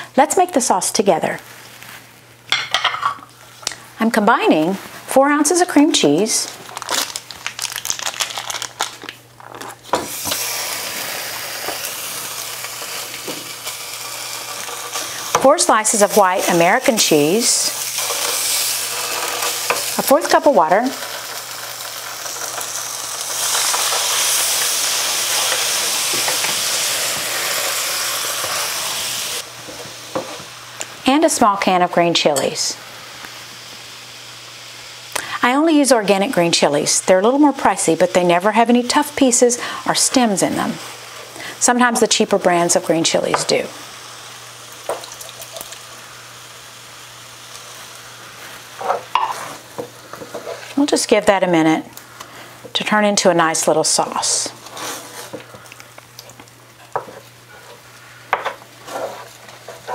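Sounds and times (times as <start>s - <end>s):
sauce simmering with hiss: 9.8s - 59.9s
water sizzling in hot skillet: 9.9s - 59.9s.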